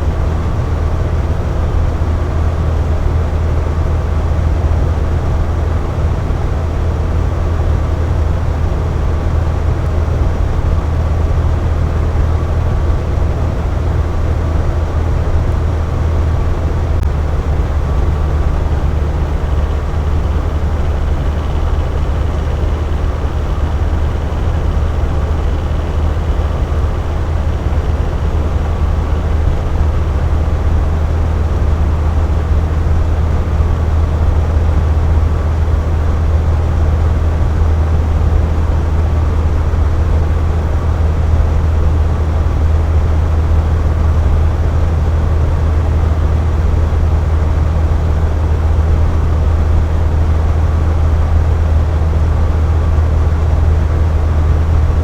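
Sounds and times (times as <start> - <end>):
box fan running: 0.0 - 55.0.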